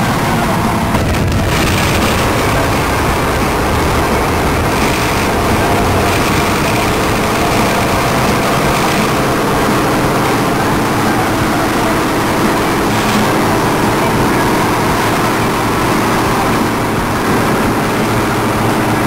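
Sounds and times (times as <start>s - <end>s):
car engine and exhaust running: 0.0s - 19.0s
road and wind noise: 0.0s - 19.0s.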